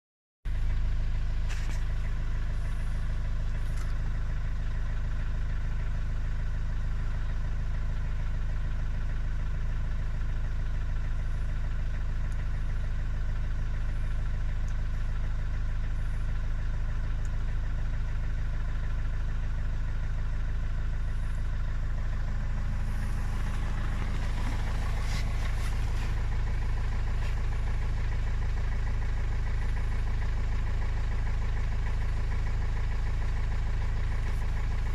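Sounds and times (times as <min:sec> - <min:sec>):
van engine idling roughly with knock: 0:00.5 - 0:34.9.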